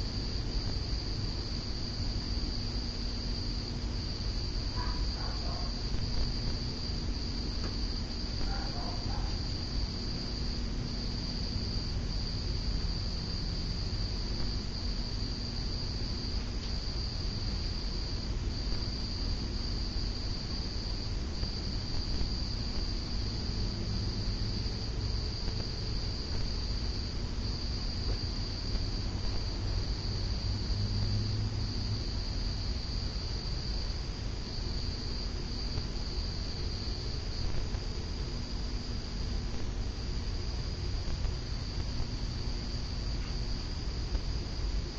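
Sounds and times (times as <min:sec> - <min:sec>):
high-pitched insect trill: 0:00.0 - 0:44.9
low steady hum: 0:00.0 - 0:44.9.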